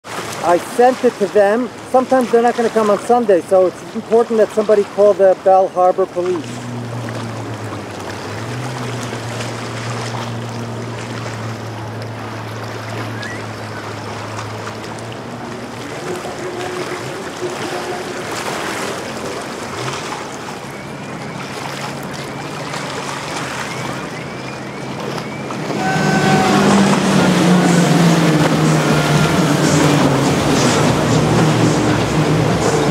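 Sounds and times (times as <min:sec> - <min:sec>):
loud boat engine: 0:00.0 - 0:32.9
motorboat engine hum: 0:00.0 - 0:32.9
water wash: 0:00.0 - 0:32.9.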